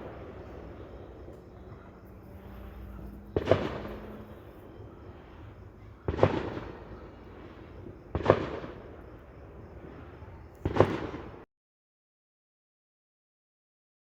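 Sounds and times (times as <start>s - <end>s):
fireworks bangs: 0.0s - 11.4s.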